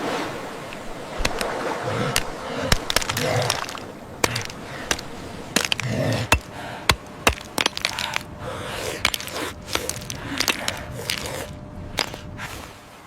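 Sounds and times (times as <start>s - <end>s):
rustling background noise: 0.0s - 13.0s
sharp cracks and crunches: 0.7s - 12.6s.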